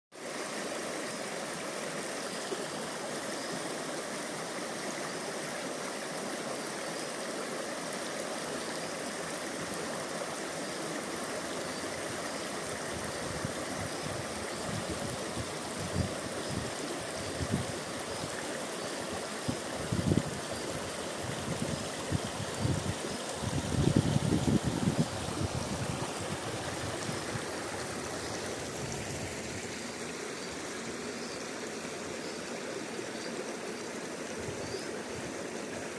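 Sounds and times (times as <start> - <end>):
river water flowing: 0.2 - 35.9.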